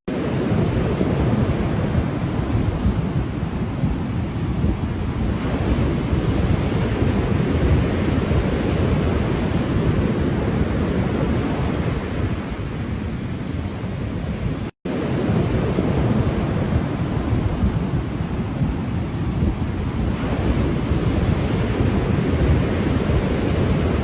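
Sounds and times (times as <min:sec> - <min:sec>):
ocean surf breaking: 0:00.1 - 0:24.0
wind buffeting microphone: 0:00.1 - 0:24.0.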